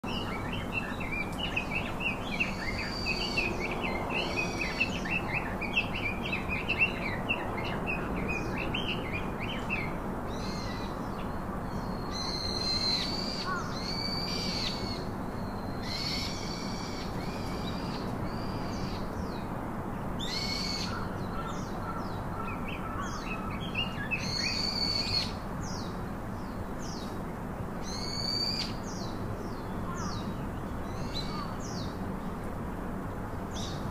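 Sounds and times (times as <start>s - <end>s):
birds twittering: 0.0s - 19.5s, 20.2s - 32.3s
low background noise: 0.0s - 33.9s.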